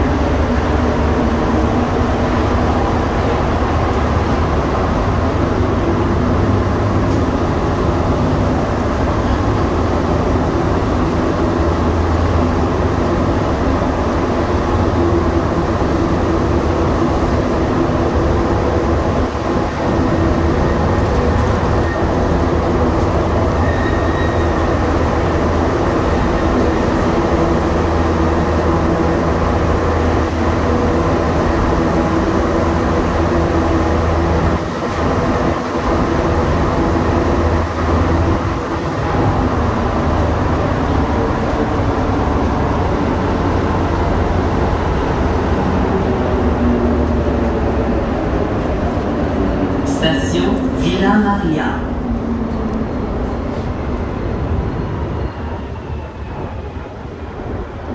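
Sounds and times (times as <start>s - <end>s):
subway train rumble: 0.0s - 57.9s.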